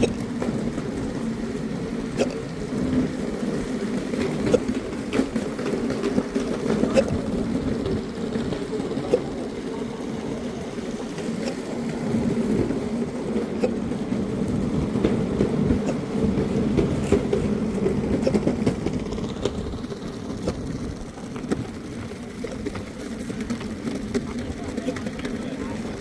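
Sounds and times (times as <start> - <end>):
vehicle rumble: 0.0 - 26.0.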